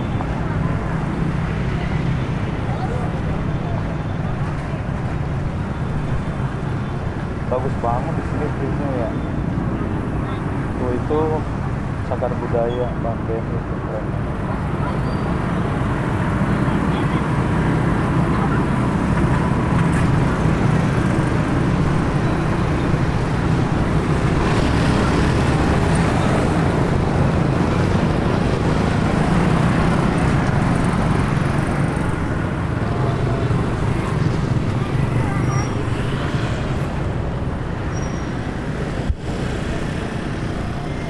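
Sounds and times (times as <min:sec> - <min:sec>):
busy road traffic: 0:00.0 - 0:41.0.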